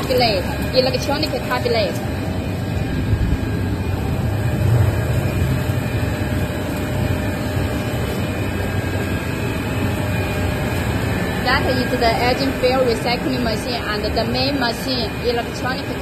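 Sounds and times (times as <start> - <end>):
industrial machinery drone: 0.0 - 16.0.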